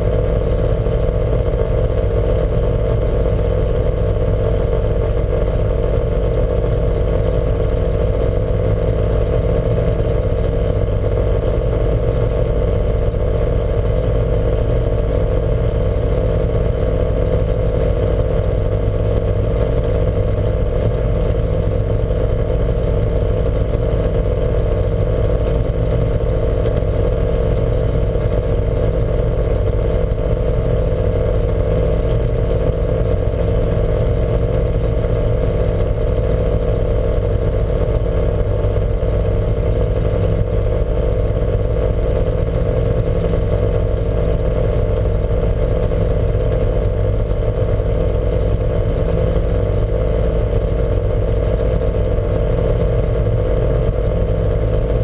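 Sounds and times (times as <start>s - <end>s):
car engine running steadily: 0.0s - 55.0s.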